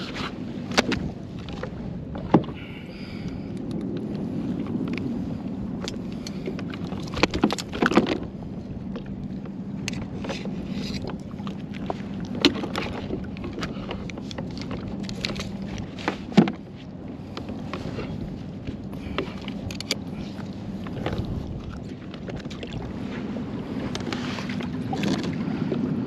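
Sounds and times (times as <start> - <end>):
wind: 0.0 - 26.0.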